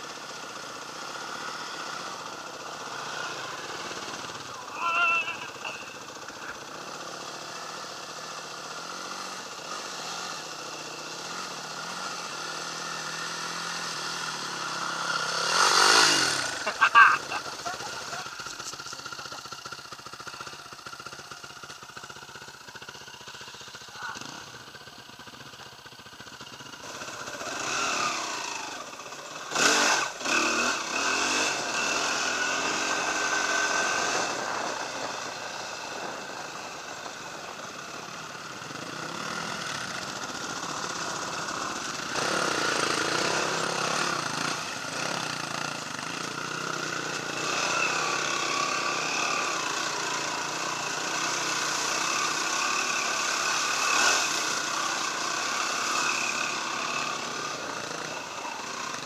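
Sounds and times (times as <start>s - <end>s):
dirt bike engine revving: 0.1s - 59.0s.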